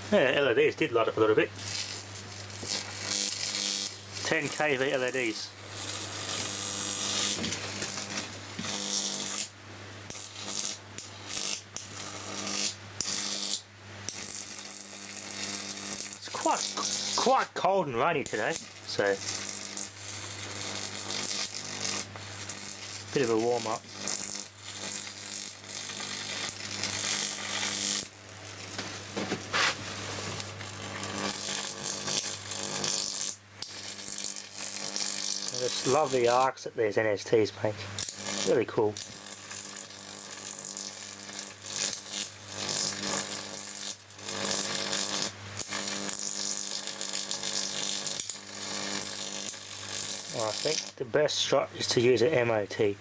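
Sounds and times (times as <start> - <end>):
transformer mains hum: 0.0 - 43.6
electric arc crackling and hissing: 0.0 - 53.0.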